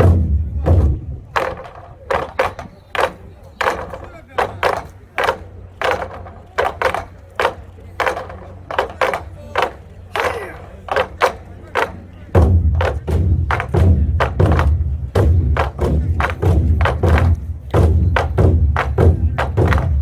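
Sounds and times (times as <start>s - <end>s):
deep loud drum beats: 0.0s - 20.0s
drum ensemble sharp strikes: 0.0s - 20.0s.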